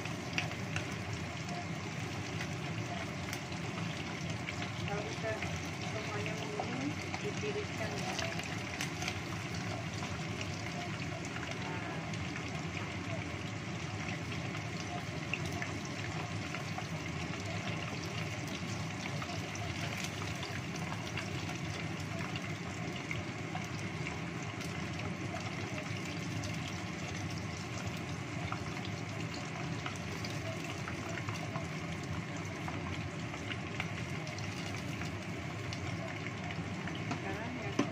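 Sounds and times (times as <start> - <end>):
deep-frying sizzle with crackles: 0.0 - 37.9.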